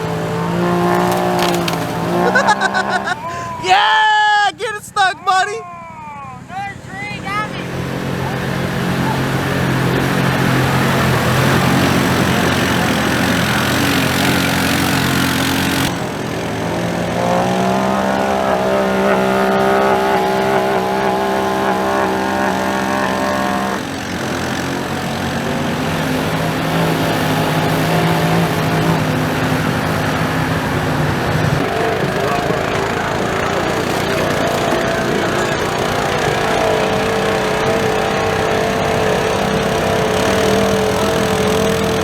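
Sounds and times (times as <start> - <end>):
utility vehicle engine revving: 0.0 - 5.0, 6.4 - 42.0.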